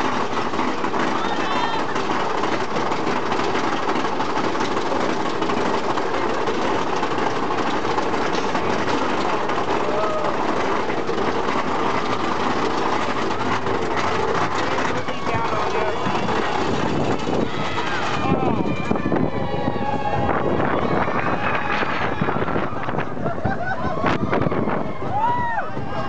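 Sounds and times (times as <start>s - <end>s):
roller coaster cars rattling: 0.0s - 26.0s.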